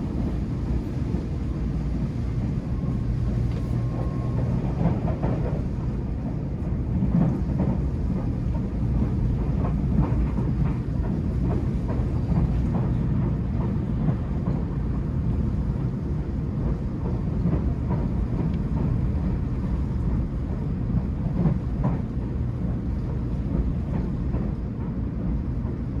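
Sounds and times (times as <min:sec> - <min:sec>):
train running low rumble: 0:00.0 - 0:26.0.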